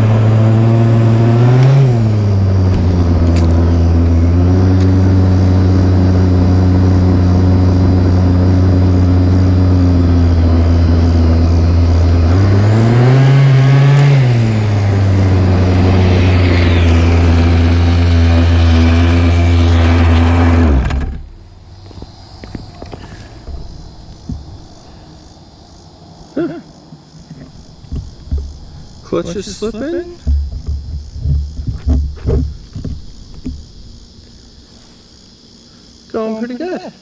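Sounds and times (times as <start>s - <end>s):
small two-stroke engine running: 0.0s - 25.4s, 27.4s - 34.8s.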